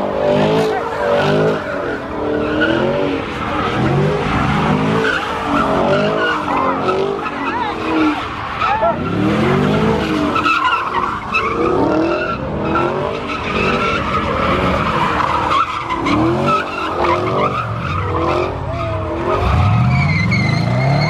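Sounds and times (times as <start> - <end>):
car engines revving: 0.0 - 21.0
tyres squealing: 0.6 - 21.0.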